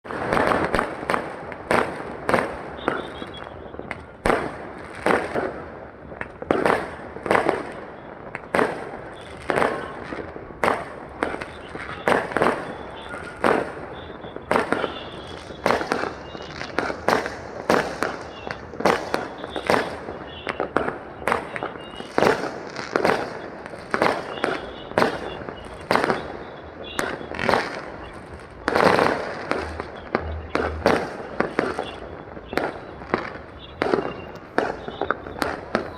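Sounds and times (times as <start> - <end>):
fireworks bursting with echo: 0.0 - 35.9.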